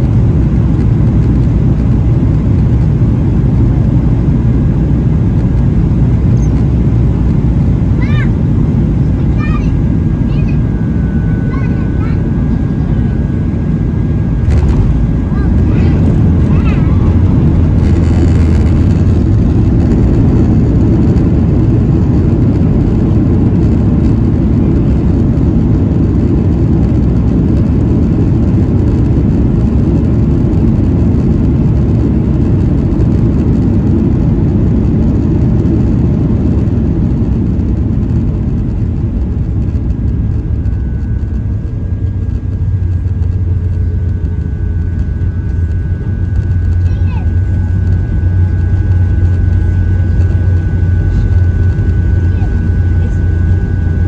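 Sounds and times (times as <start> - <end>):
aircraft engines rumbling in cabin: 0.0 - 54.0.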